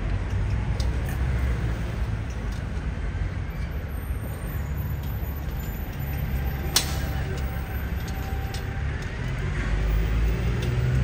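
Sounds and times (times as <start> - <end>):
rumble of road traffic: 0.0 - 11.0.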